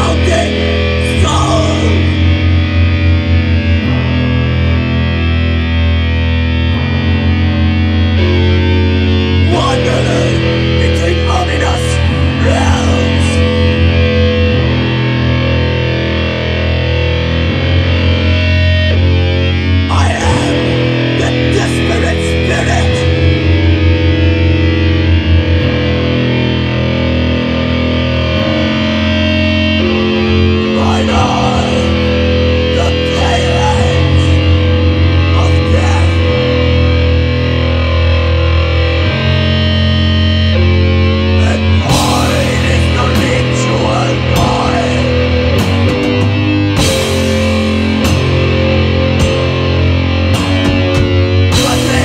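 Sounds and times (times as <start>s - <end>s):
bass guitar chords: 0.0s - 52.0s
distorted electric guitars: 0.0s - 52.0s
drums: 0.0s - 52.0s
metal band playing live: 0.0s - 52.0s.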